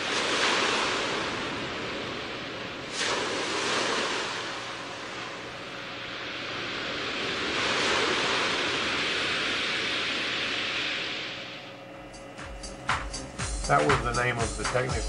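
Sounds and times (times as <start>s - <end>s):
rain and wind rushing: 0.0s - 14.6s.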